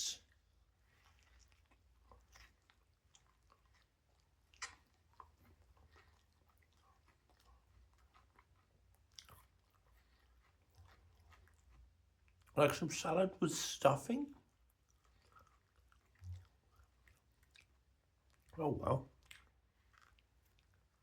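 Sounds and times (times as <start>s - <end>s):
person chewing sandwich: 0.1s - 12.8s, 14.3s - 21.0s.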